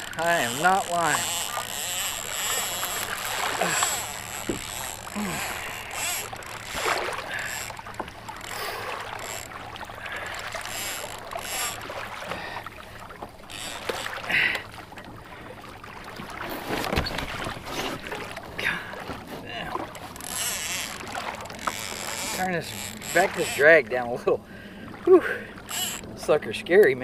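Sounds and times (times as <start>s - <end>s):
gear knocking on boat: 0.0s - 12.6s, 13.2s - 15.2s, 16.2s - 24.1s, 25.6s - 27.0s
water washing against hull: 0.0s - 27.0s.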